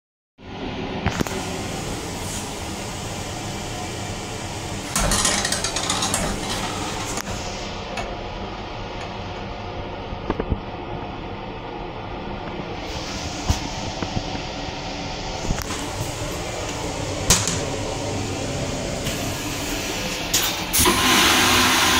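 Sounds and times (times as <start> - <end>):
mechanical hum and rushing: 0.5 - 21.6.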